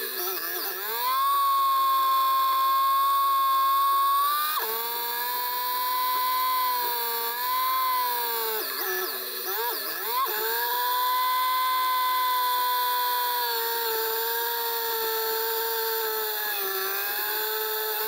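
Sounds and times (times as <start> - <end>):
motorcycle engine whining at high revs: 0.0 - 18.0.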